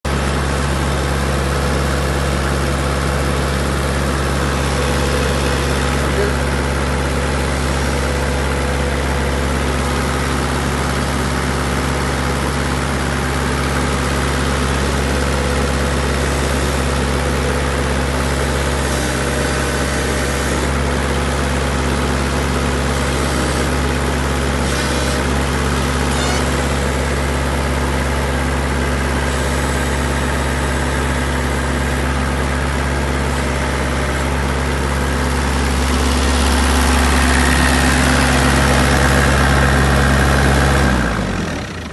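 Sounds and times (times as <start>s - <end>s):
drilling rig engine idling: 0.1s - 41.9s.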